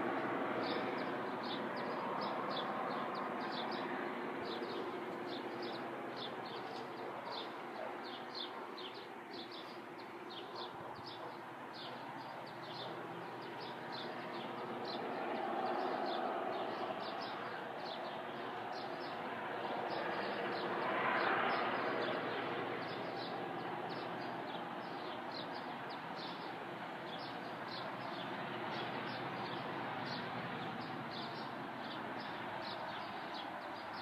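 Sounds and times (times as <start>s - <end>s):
small birds chirping: 0.6s - 34.0s.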